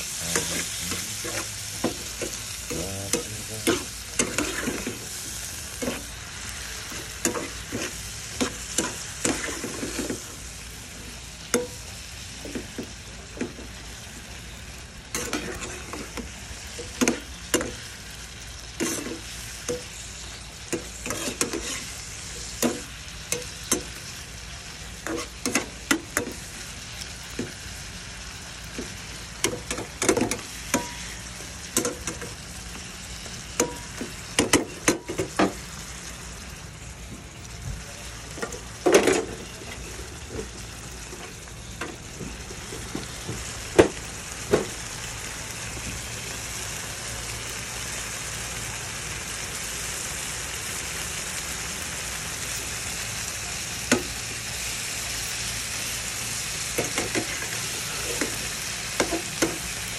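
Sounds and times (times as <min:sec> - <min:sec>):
shrimp sizzling in oil: 0:00.0 - 0:59.9.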